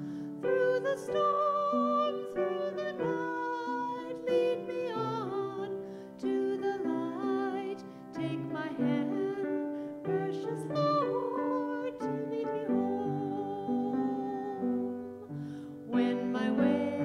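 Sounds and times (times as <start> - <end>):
grand piano chords: 0.0 - 17.0
person singing: 0.0 - 17.0.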